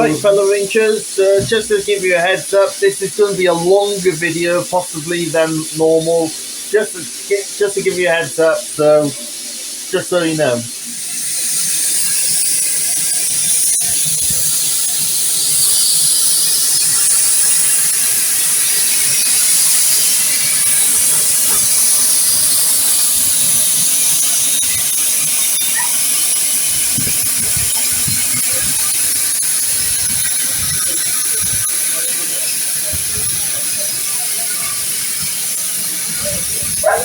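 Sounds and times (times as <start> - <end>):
steam locomotive hissing steam: 0.0 - 37.0.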